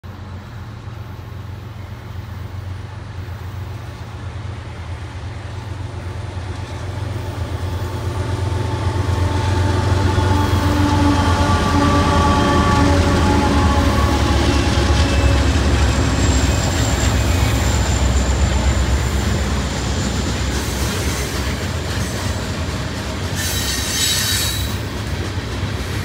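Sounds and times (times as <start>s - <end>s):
locomotive engines droning: 0.0s - 26.0s
locomotive whine: 0.2s - 26.0s.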